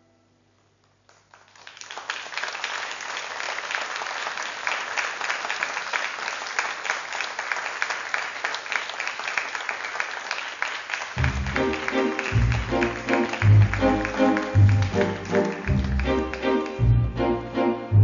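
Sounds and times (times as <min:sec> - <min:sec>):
audience applauding: 0:01.0 - 0:17.5.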